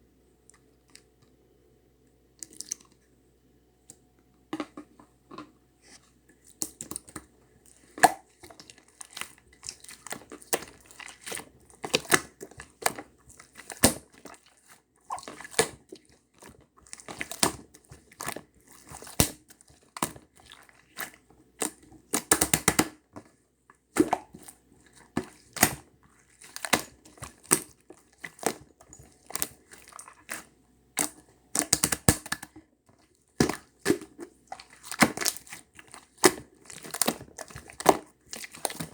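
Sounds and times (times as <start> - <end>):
crinkling and crunching: 4.6 - 22.4, 24.0 - 38.9.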